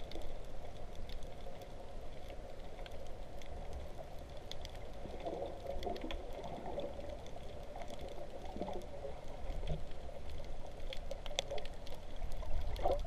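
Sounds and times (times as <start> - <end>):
muffled underwater water movement: 0.0 - 13.0
sharp underwater clicks and crackles: 0.0 - 13.0.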